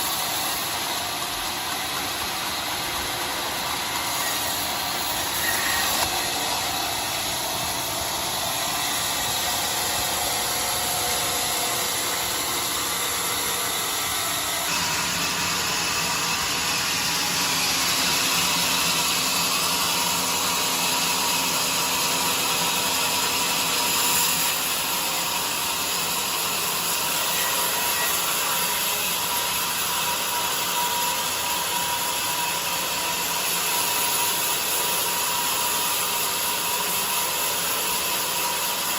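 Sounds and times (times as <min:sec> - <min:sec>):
bandsaw mill sawing log: 0:00.0 - 0:38.9.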